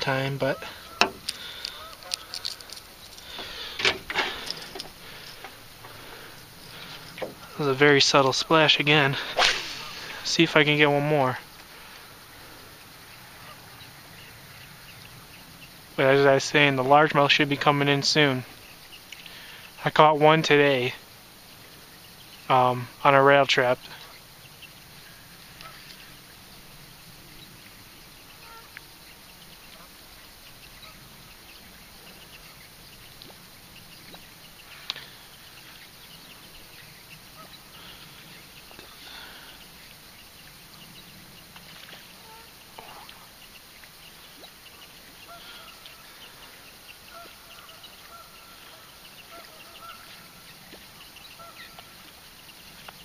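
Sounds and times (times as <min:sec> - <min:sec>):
distant bird calls: 0:00.0 - 0:53.0.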